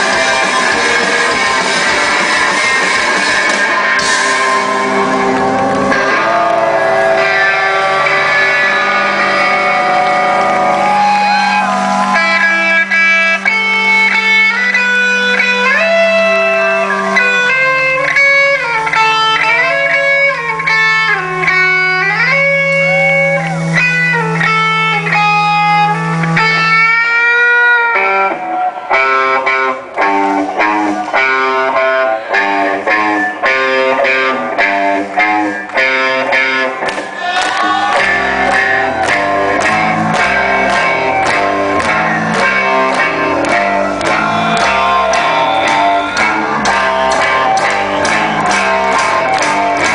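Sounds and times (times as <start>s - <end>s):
electric guitar lead: 0.0s - 49.9s
rock band playing: 0.0s - 49.9s.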